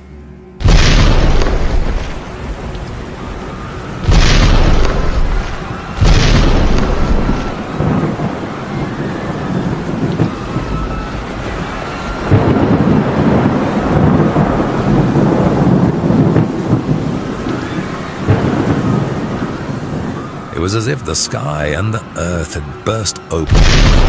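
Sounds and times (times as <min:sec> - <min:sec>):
thunder claps and rumble: 0:00.6 - 0:21.4, 0:23.4 - 0:24.0
heavy rain: 0:00.6 - 0:24.0.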